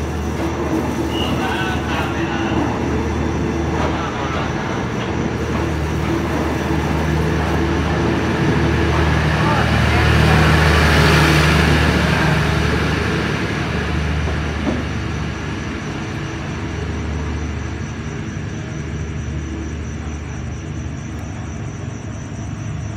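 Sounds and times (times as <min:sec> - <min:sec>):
train cars rolling past: 0:00.0 - 0:22.9.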